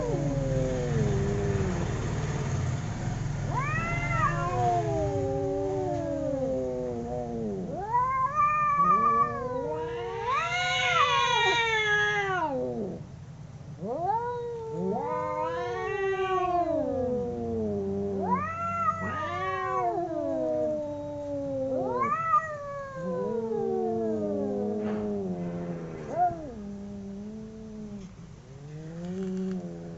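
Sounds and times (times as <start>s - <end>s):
cats yowling in a fight: 0.0s - 2.2s, 3.4s - 13.1s, 13.7s - 29.9s.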